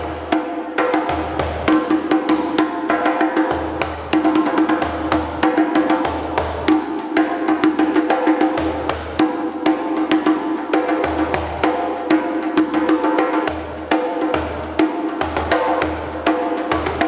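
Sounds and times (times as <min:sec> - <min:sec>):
djembe played with hands: 0:00.0 - 0:17.0.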